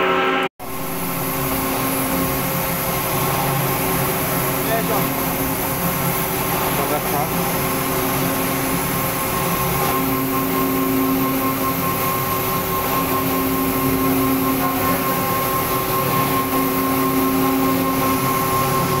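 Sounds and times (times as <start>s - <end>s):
industrial motor hum: 0.0s - 19.0s.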